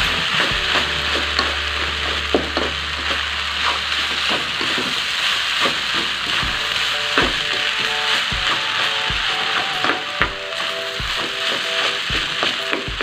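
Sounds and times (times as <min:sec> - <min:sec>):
fried rice sizzling in wok: 0:00.0 - 0:13.0.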